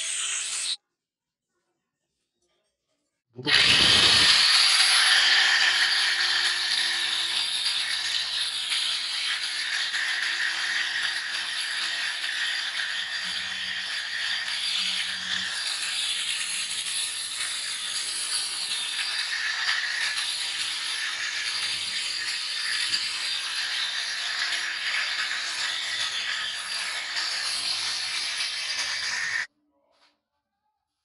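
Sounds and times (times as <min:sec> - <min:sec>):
angle grinder grinding chain: 0:03.5 - 0:29.5.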